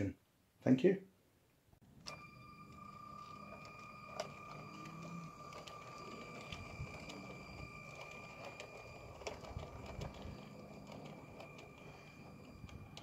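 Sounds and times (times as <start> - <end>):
toy train motor whine: 2.0 - 13.0
wheels clicking over track joints: 2.0 - 13.0.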